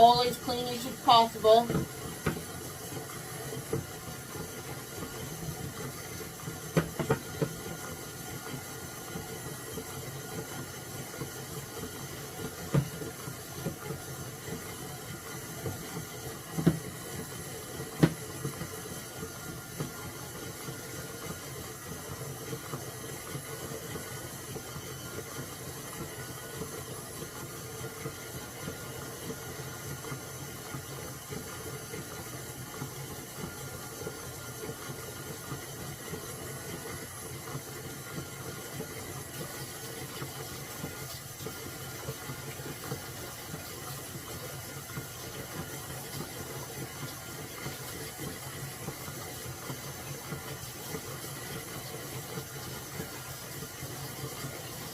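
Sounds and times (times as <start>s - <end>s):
dough worked by hand: 0.0s - 54.9s.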